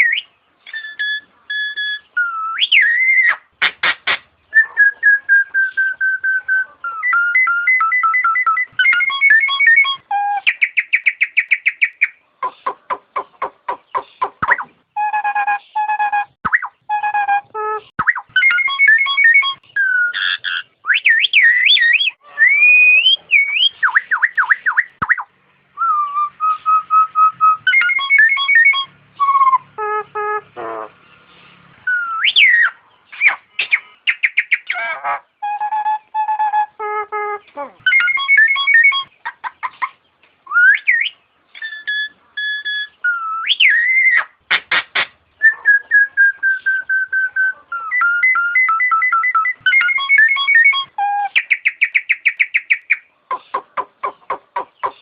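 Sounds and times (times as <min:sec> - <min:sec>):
myna bird whistling calls: 0:00.0 - 0:29.8, 0:30.6 - 0:36.9, 0:37.8 - 0:55.0.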